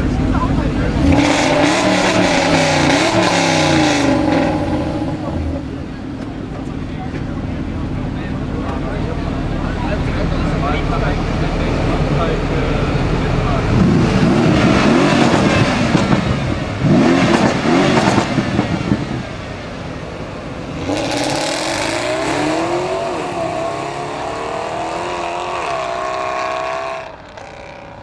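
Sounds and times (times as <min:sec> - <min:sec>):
car accelerating away: 0:00.0 - 0:28.0
car engine revving: 0:00.0 - 0:28.0
exhaust crackles: 0:00.0 - 0:28.0.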